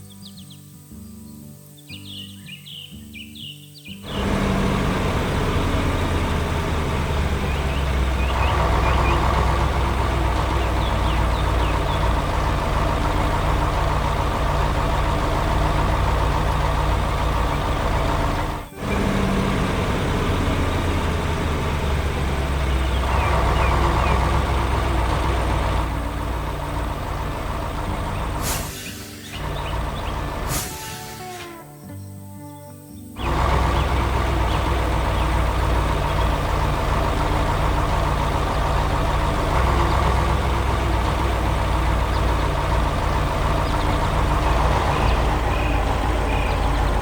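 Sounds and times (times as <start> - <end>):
heavy truck engine rumbling: 4.0 - 32.0, 33.1 - 47.0.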